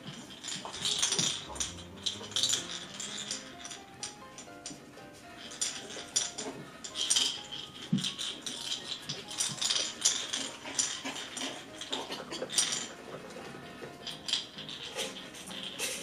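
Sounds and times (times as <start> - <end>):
soft background music: 0.0 - 16.0
toys clinking and rattling: 0.0 - 16.0.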